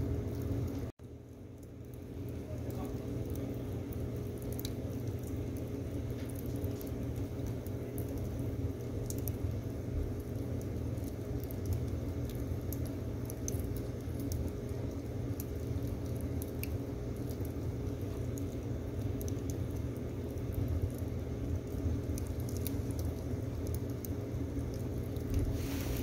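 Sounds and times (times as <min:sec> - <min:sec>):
wood fire crackling and popping: 0:00.2 - 0:26.0.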